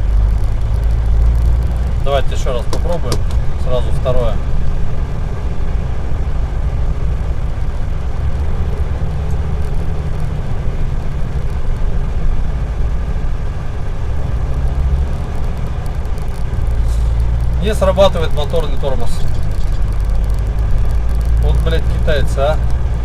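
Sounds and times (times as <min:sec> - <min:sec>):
diesel engine low rumble: 0:00.0 - 0:23.0
road noise: 0:00.0 - 0:23.0.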